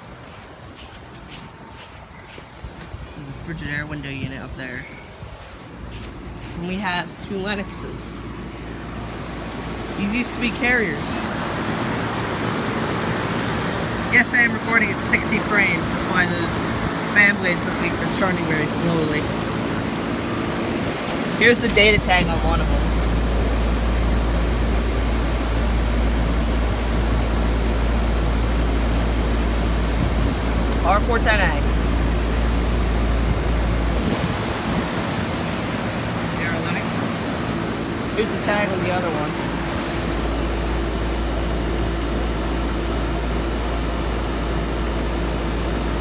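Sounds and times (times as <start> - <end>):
air conditioner fan whoosh: 0.0 - 46.0
motor hum: 5.4 - 46.0.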